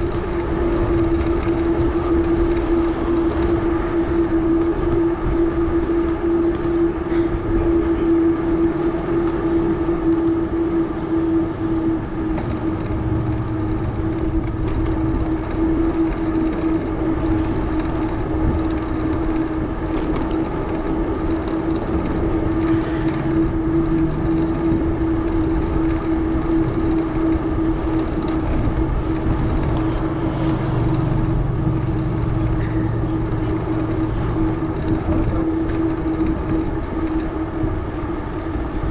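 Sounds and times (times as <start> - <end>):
bicycle tires humming on pavement: 0.0 - 38.9.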